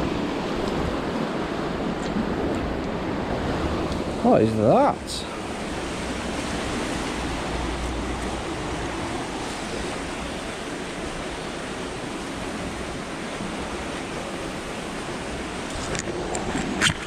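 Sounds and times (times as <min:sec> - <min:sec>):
fast-flowing water rushing: 0:00.0 - 0:17.0.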